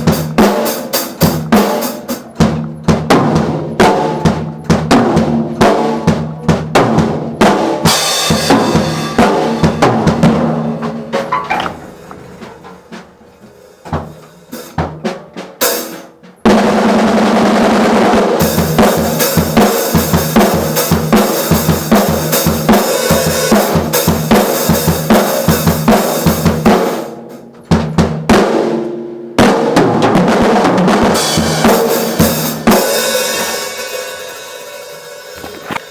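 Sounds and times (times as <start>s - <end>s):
drum kit played hard: 0.0s - 35.9s.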